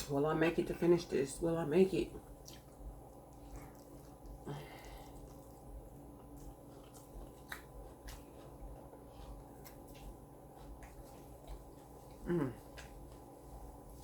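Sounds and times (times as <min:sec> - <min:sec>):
faint chewing: 0:02.2 - 0:14.0.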